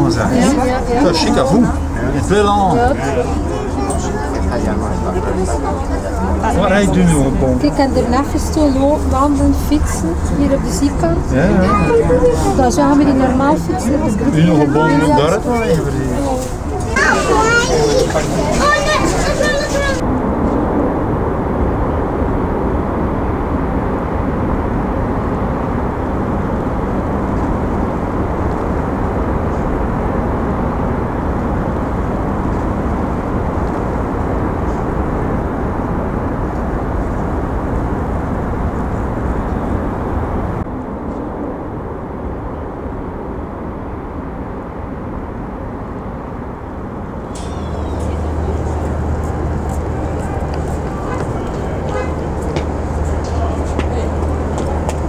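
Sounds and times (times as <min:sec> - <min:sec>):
cable car cabin rumble and hiss: 0:00.0 - 0:55.0.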